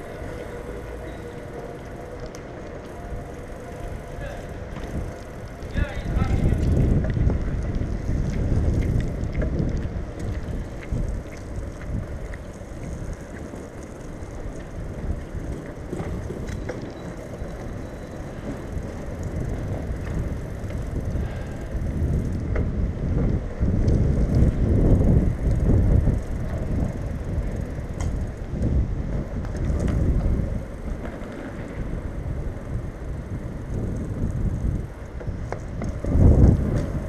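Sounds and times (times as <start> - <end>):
bicycle tyres on wet paving: 0.0 - 37.0
wind on microphone: 0.0 - 37.0.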